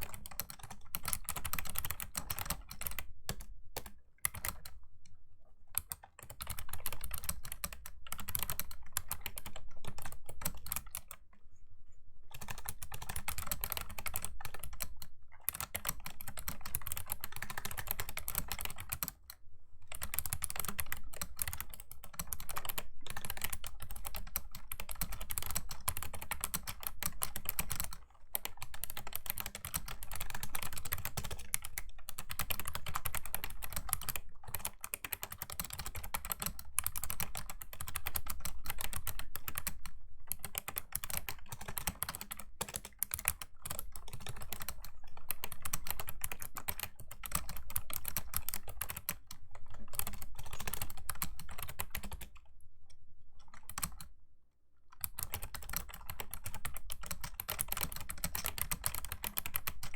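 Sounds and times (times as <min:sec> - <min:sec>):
clicky keyboard typing: 0:00.0 - 0:11.2, 0:12.3 - 0:54.2, 0:54.9 - 0:59.9.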